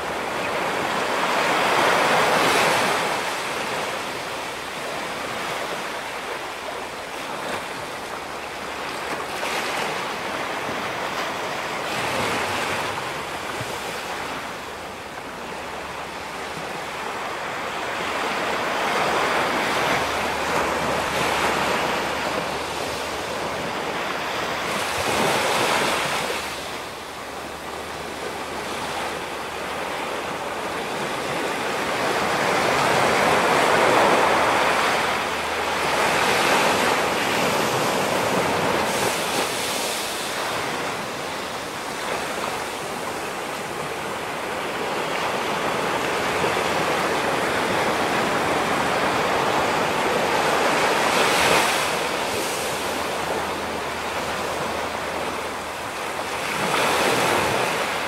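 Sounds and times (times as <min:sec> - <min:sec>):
waves breaking on rocky shore: 0:00.0 - 0:58.0.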